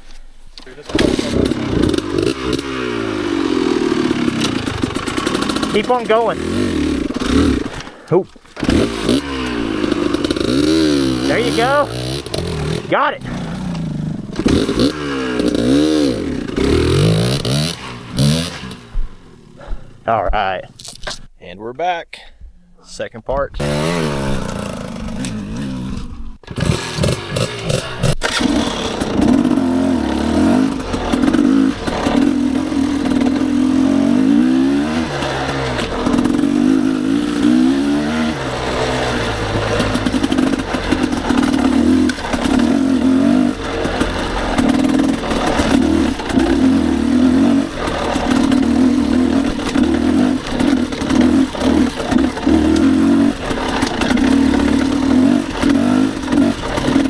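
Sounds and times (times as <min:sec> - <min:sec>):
dirt bike engine revving: 0:00.6 - 0:21.3, 0:23.4 - 0:57.0.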